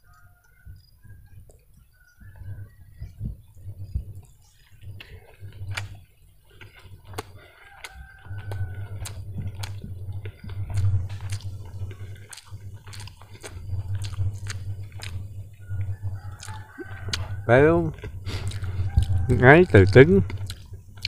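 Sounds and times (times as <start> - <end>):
chewing: 1.2 - 21.0.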